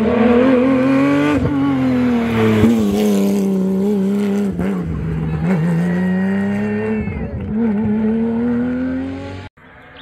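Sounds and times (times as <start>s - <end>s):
car engine at high revs: 0.0s - 9.5s.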